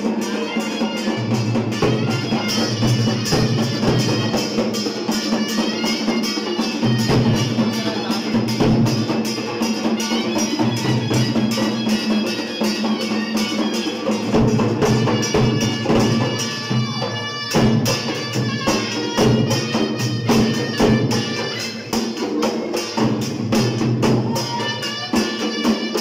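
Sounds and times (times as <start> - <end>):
barrel drums beating fast: 0.0 - 26.0
reedy double-reed pipe melody: 0.0 - 26.0.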